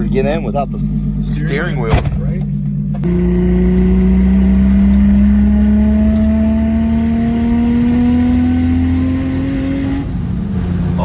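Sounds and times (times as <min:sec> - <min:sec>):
car engine accelerating: 0:00.0 - 0:11.0
low road rumble: 0:00.0 - 0:11.0.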